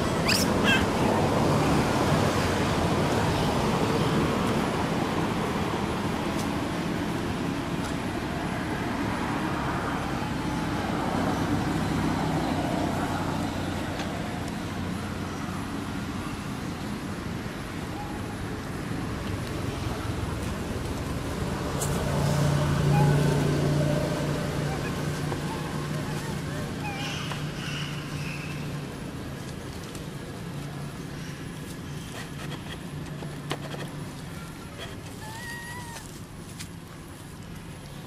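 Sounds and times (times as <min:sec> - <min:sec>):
road traffic hum: 0:00.0 - 0:38.0.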